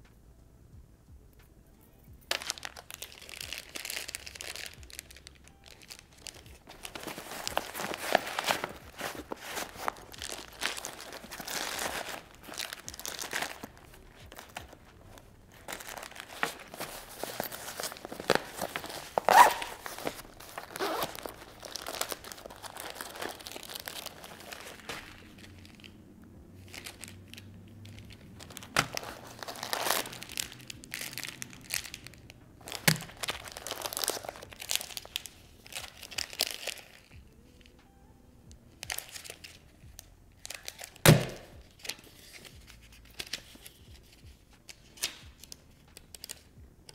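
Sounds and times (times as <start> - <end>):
plastic packaging crinkling: 2.2 - 37.7, 38.8 - 46.5.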